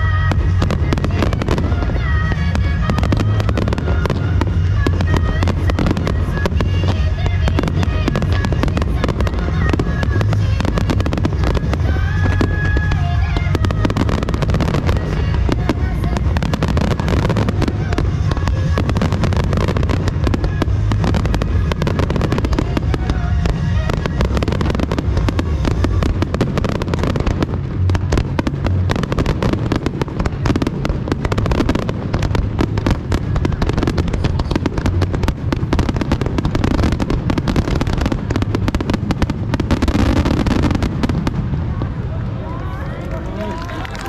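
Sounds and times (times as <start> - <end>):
constant low rumble: 0.0 - 44.0.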